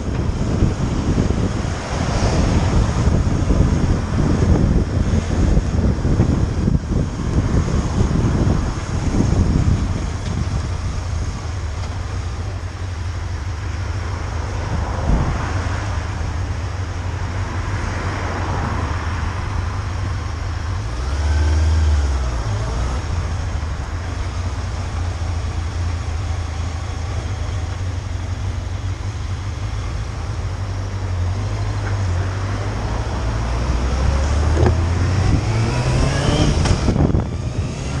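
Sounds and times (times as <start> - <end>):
motorcycle engine running: 0.0 - 17.7, 22.0 - 38.0
wind rumble on microphone: 0.0 - 38.0.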